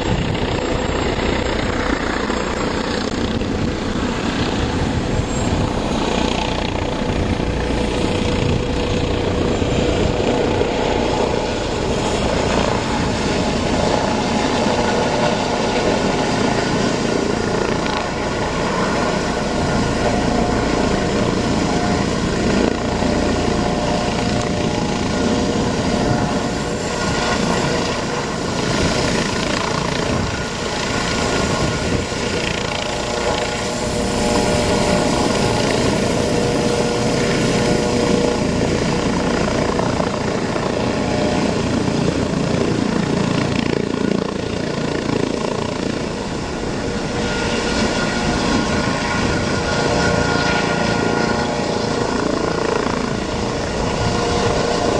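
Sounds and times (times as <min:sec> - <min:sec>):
helicopter flying low: 0:00.0 - 0:54.9.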